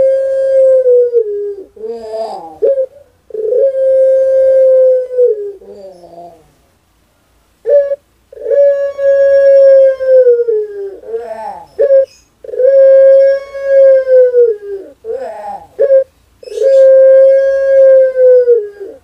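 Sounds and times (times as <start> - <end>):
dove cooing: 0.0 - 6.6, 7.6 - 19.0.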